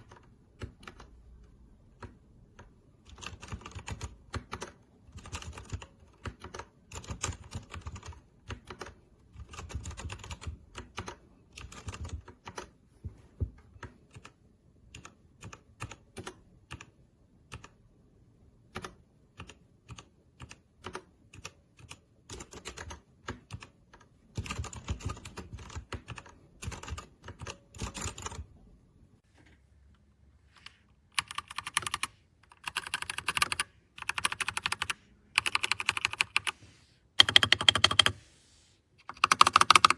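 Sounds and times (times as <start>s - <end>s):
mechanical keyboard typing: 0.0s - 1.2s, 1.9s - 12.8s, 13.8s - 17.8s, 18.7s - 28.5s, 30.6s - 36.6s, 37.2s - 38.2s, 39.0s - 39.9s.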